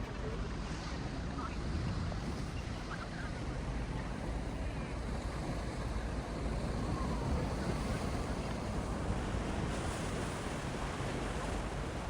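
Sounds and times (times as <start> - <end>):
sea surf: 0.0 - 12.0
wind rumbling on microphone: 0.0 - 12.0.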